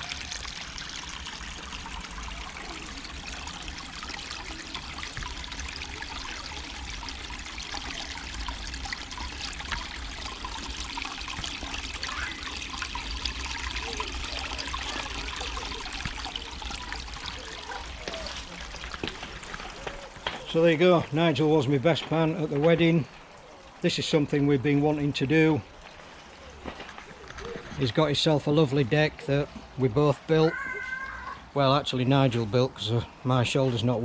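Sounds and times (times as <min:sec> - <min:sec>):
water splashing over stones: 0:00.0 - 0:28.3.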